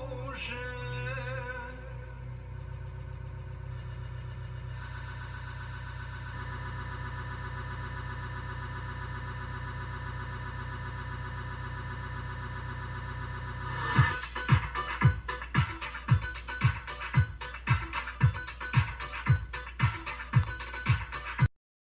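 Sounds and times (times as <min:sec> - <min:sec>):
cd skipping stutter: 0:00.6 - 0:21.5.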